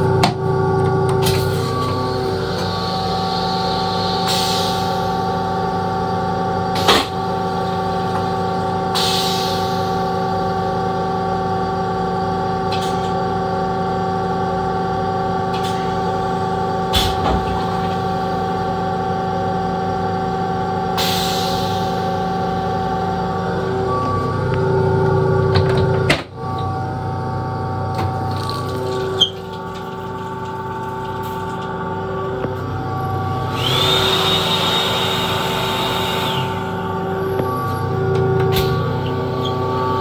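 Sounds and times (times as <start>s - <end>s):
railcar equipment hum: 0.0s - 40.0s.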